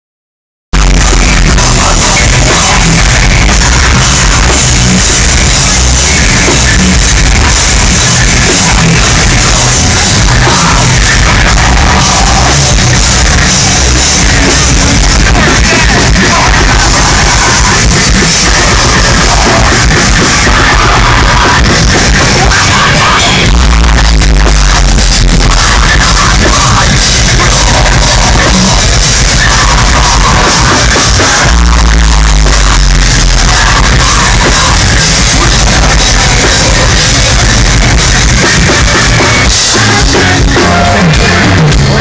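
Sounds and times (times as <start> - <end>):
live metal band playing: 0.8 - 42.0
screamed lead vocal: 0.8 - 42.0.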